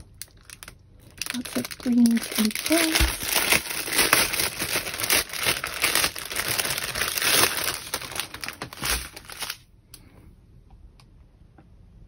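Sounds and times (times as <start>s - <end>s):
plastic wrap crinkling: 0.0s - 9.7s.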